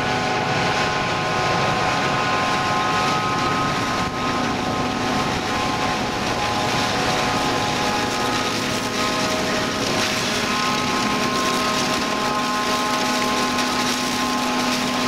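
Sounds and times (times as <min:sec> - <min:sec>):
harvester engine drone: 0:00.0 - 0:15.0
high even whine: 0:00.0 - 0:15.0.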